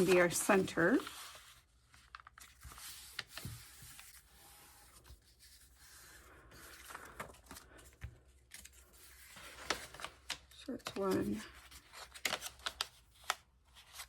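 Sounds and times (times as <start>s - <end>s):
paper rustling and folding: 0.0s - 14.0s.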